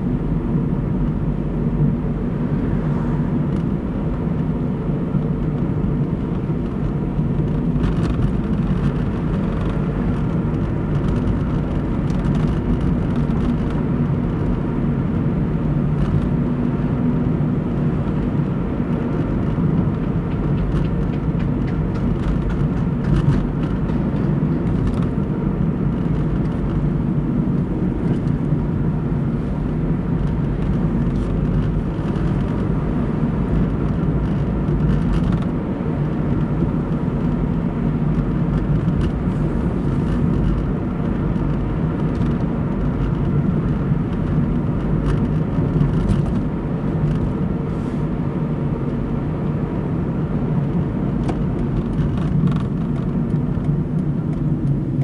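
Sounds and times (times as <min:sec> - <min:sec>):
car engine: 0:00.0 - 0:55.0.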